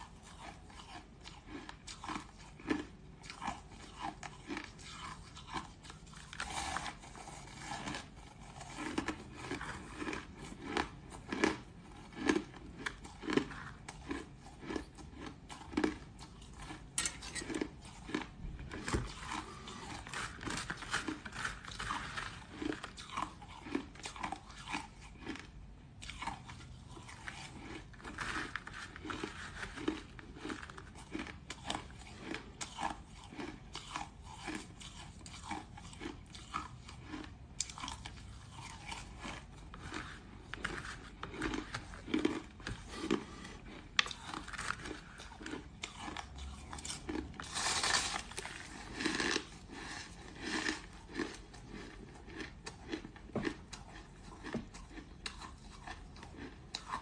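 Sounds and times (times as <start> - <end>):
chewing crushed ice: 0.0 - 57.0.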